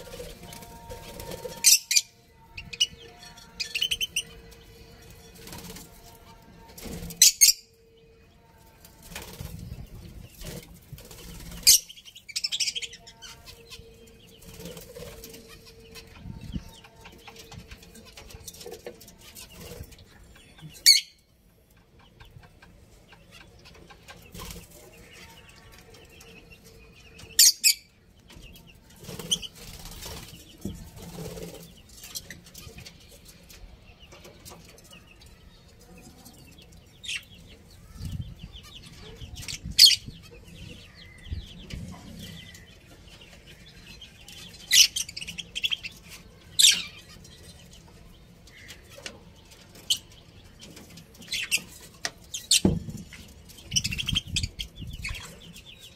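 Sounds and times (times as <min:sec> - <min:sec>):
budgerigars chirping and chattering: 0:00.0 - 0:05.8, 0:06.8 - 0:07.8, 0:09.1 - 0:35.3, 0:36.3 - 0:55.9.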